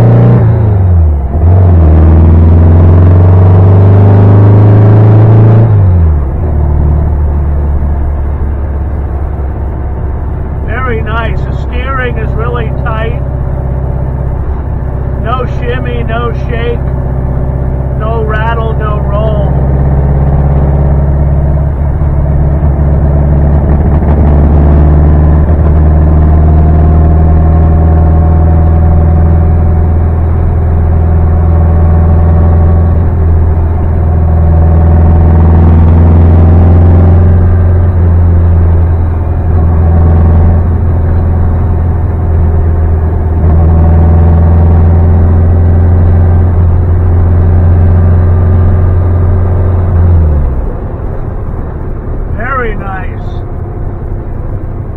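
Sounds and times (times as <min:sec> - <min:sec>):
car engine droning: 0:00.0 - 0:54.9.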